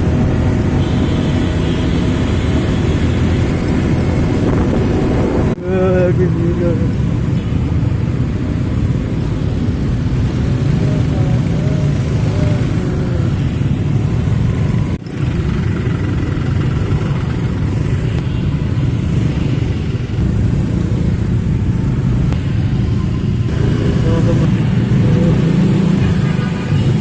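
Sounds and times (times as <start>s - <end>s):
truck engine rumbling: 0.0s - 26.2s.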